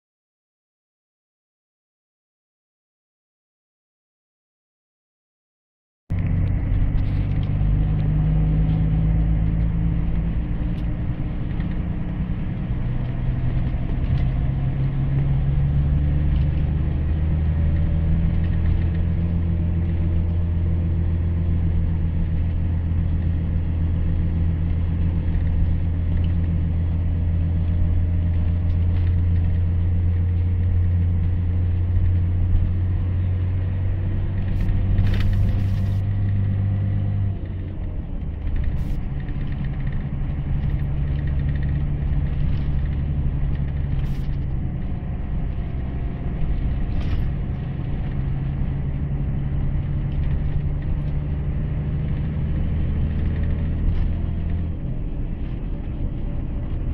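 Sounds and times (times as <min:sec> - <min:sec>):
diesel engine drone: 0:06.1 - 0:56.9.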